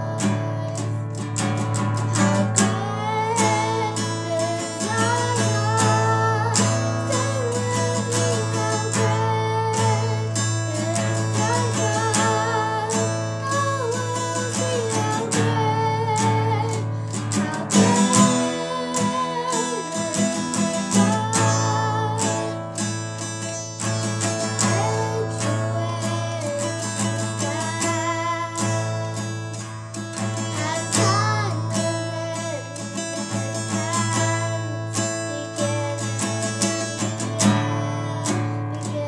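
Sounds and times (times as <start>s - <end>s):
child singing: 0.0s - 22.8s, 23.8s - 39.0s
acoustic guitar strumming: 0.0s - 39.0s.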